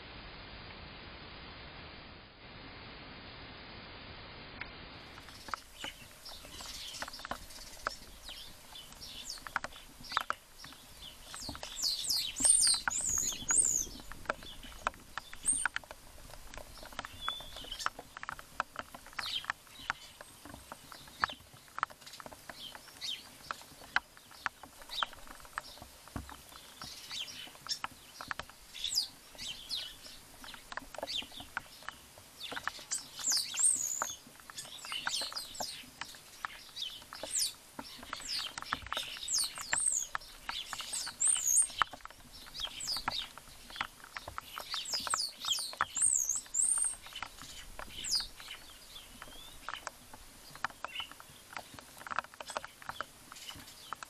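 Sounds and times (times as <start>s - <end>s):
birds chirping and whistling: 5.1s - 15.8s, 16.4s - 25.8s, 26.5s - 54.0s.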